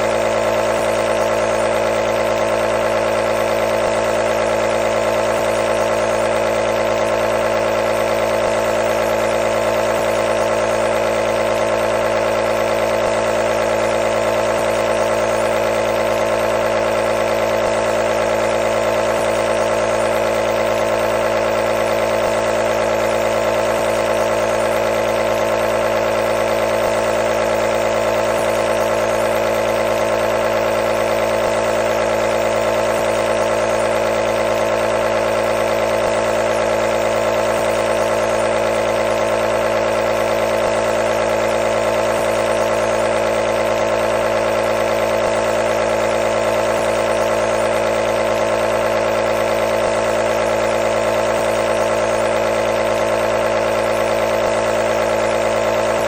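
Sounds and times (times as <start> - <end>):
nebulizer motor humming: 0.0 - 56.0.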